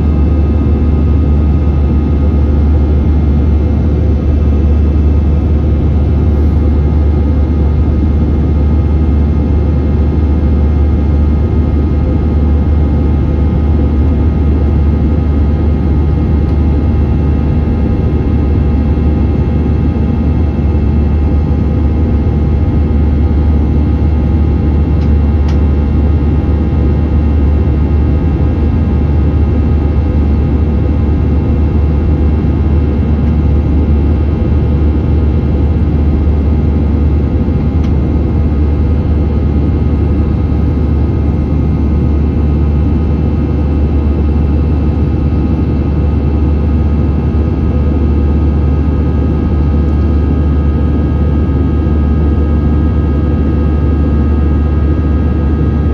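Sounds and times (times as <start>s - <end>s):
jet engine cabin drone: 0.0s - 55.9s.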